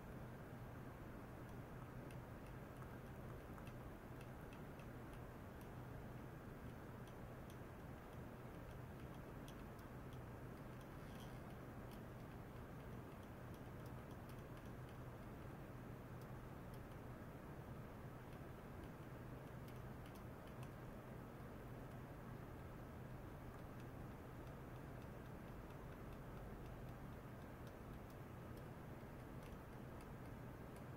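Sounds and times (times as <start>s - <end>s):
faint ticks: 0.1s - 30.9s.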